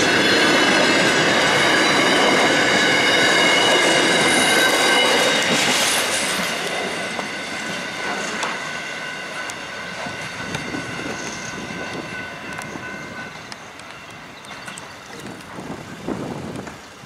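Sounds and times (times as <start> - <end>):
train wheels squealing: 0.0 - 15.7
train wagons rumbling: 0.0 - 17.0.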